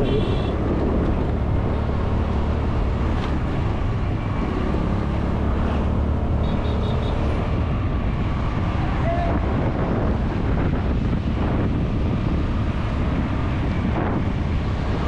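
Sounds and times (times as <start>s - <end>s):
wind rushing over microphone: 0.0s - 6.5s, 7.1s - 15.0s.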